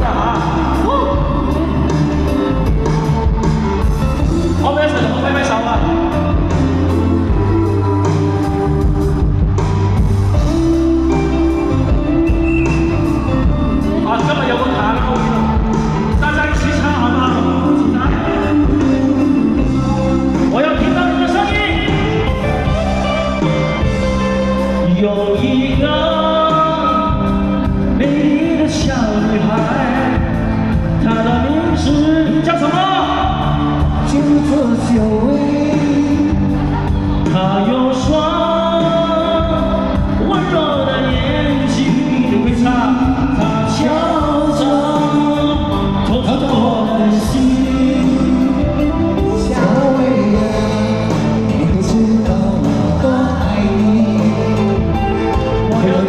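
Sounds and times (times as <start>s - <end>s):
band backing: 0.0s - 56.0s
person singing a pop song: 0.0s - 56.0s.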